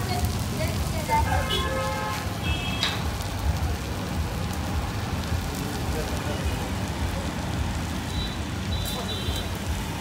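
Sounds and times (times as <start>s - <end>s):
noodles frying hiss: 0.0s - 10.0s.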